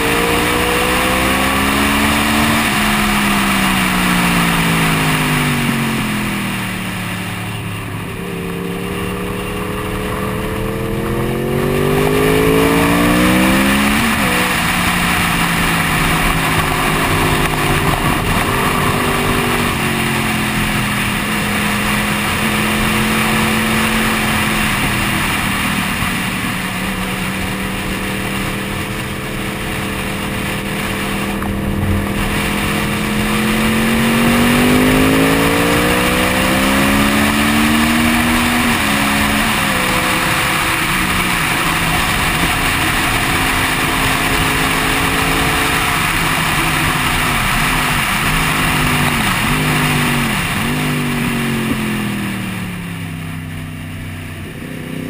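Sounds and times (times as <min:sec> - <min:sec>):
heavy wind noise: 0:00.0 - 0:53.4
motorcycle engine: 0:00.0 - 0:55.0.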